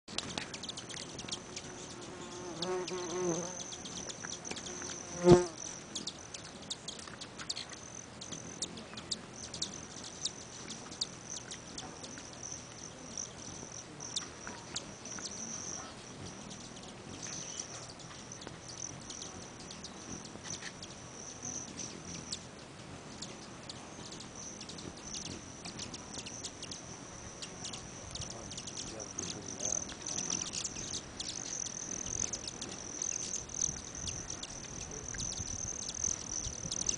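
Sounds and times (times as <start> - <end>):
hummingbird wings whirring: 0.1 - 36.9.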